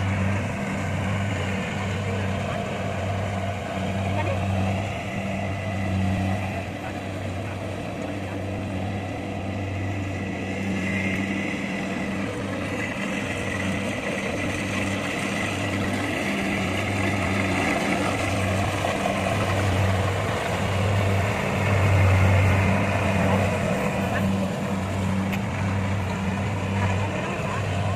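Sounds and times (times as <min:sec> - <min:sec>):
combine harvester engine humming: 0:00.0 - 0:27.9.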